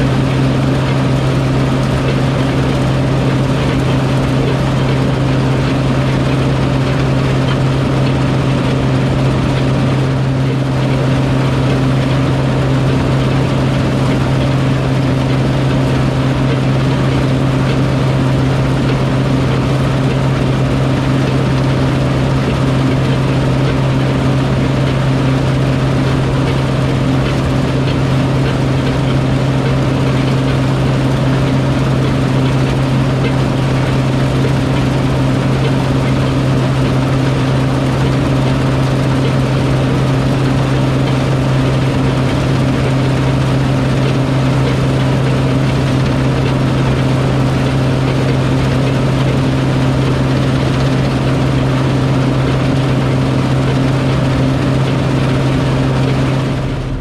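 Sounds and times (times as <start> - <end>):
farm machine engine humming: 0.0 - 57.0.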